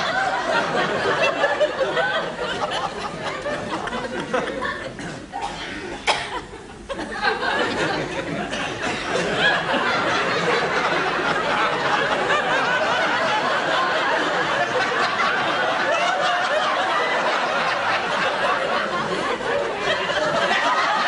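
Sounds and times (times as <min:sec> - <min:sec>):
audience laughing: 0:00.0 - 0:05.3, 0:05.9 - 0:21.0.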